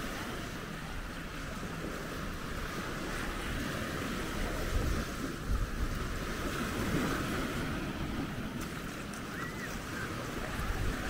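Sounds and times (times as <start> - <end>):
surf washing onto beach: 0.0 - 11.0
wind buffeting microphone: 1.1 - 11.0.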